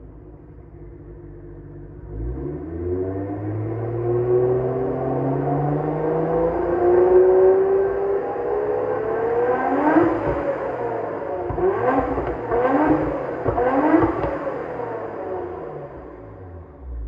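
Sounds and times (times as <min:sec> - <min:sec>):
car engine revving: 0:01.1 - 0:17.0.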